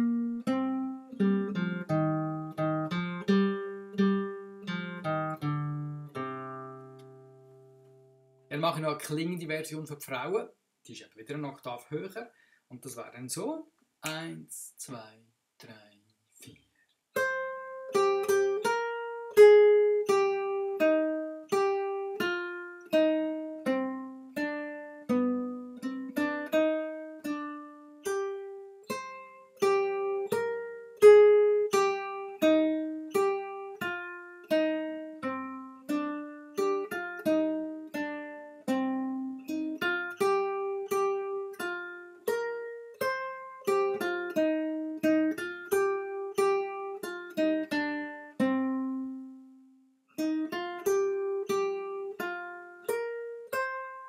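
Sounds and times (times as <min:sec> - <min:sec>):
classical guitar picking melody: 0:00.0 - 0:08.8, 0:17.2 - 0:54.0.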